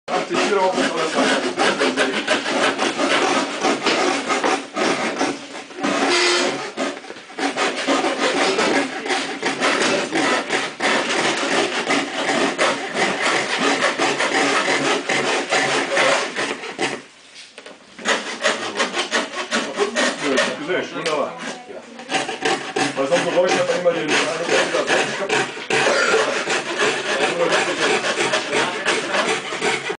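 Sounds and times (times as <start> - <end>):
hand saw cutting pressboard: 0.1 - 17.1, 18.0 - 30.0.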